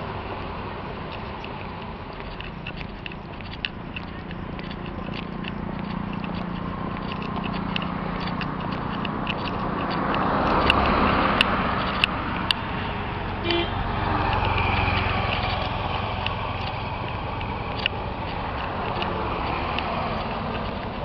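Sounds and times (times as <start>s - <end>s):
approaching vehicle engine hum: 0.0s - 21.0s
road traffic: 0.0s - 21.0s.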